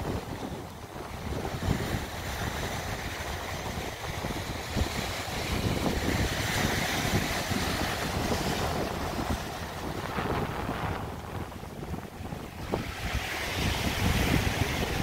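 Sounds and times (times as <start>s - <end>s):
sea waves breaking on beach: 0.0s - 15.0s
wind buffeting microphone: 0.0s - 15.0s.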